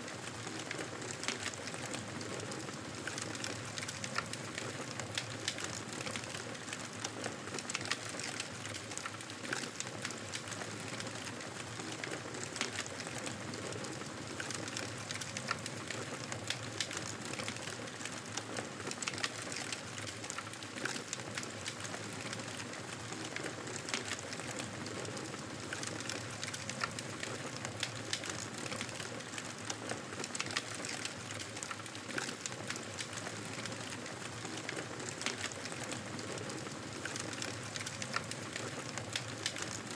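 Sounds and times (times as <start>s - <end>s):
campfire hissing and crackling: 0.2s - 39.9s.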